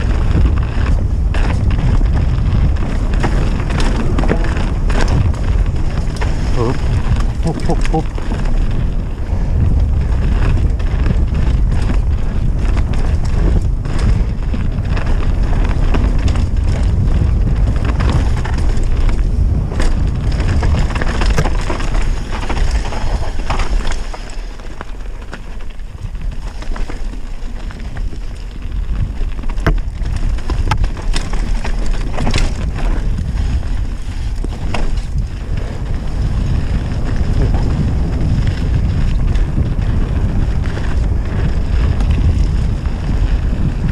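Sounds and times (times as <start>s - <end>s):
mountain bike knocks and rattles: 0.0s - 43.9s
tyres rumbling on dirt trail: 0.0s - 43.9s
wind buffeting microphone: 0.0s - 43.9s.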